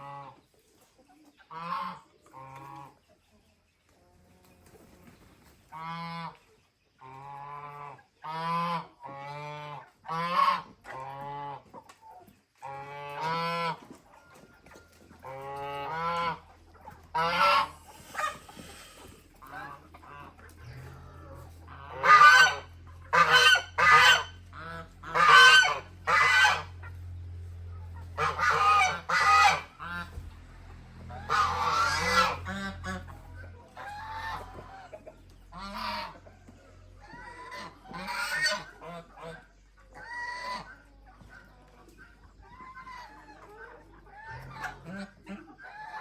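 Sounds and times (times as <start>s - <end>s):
poultry calling: 0.0s - 3.0s, 4.2s - 46.0s.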